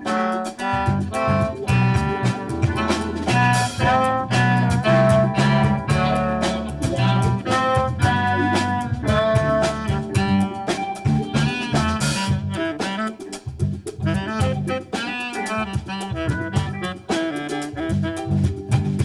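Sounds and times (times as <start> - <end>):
swing jazz band music: 0.0 - 19.0.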